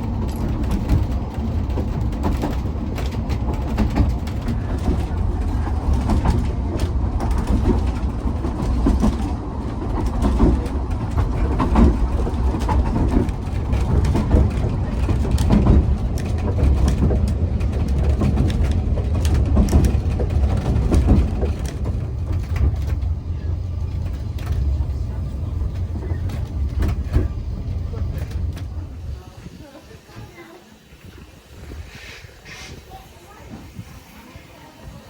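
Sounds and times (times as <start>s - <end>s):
train rumbling: 0.0s - 35.0s
wheels clicking and knocking: 0.0s - 35.0s.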